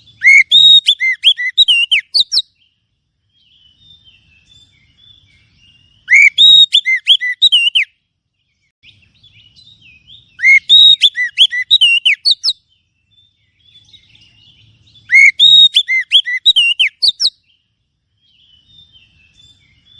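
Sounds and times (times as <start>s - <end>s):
bird whistled song phrases: 0.0s - 19.9s
faint bird twittering: 0.0s - 19.9s.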